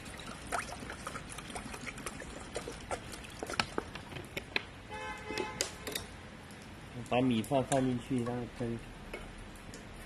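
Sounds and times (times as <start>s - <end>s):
water trickling into a pot: 0.0s - 4.5s, 5.7s - 10.0s.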